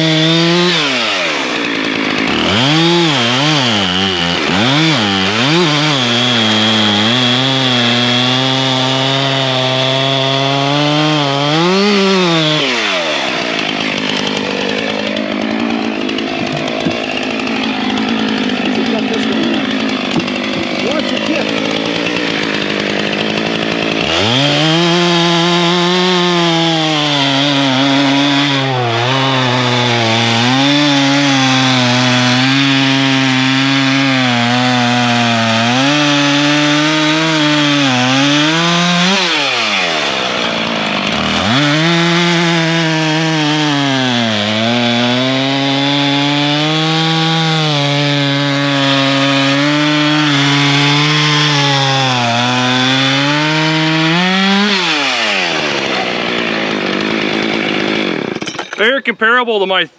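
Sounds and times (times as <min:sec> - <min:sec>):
chainsaw cutting log: 0:00.0 - 0:59.5.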